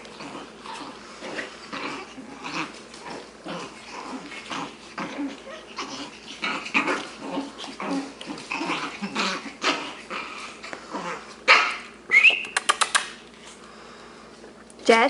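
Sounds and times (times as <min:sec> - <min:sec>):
puppies growling: 0:00.0 - 0:14.7.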